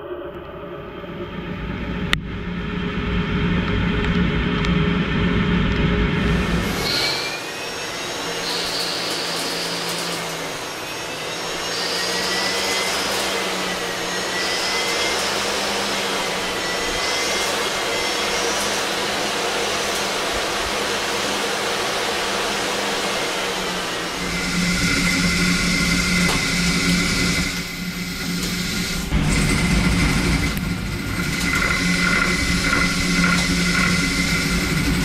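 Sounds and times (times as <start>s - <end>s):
whining spindle tones: 0.0s - 35.0s
lathe machine hiss: 6.3s - 35.0s.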